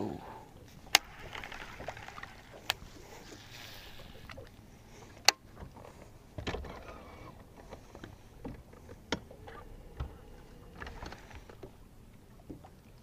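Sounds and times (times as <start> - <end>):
water lapping at hull: 0.0 - 13.0.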